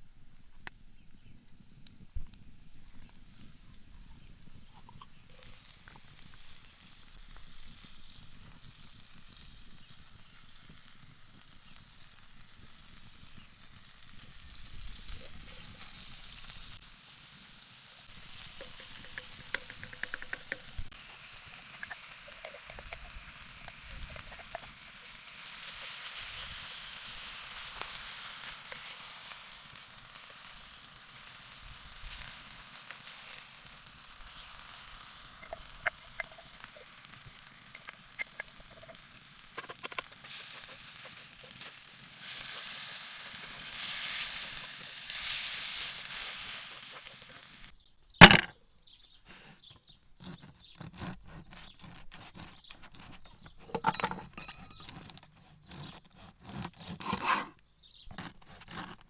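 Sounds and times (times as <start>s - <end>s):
sausage sizzling in a pan: 0.0s - 47.8s.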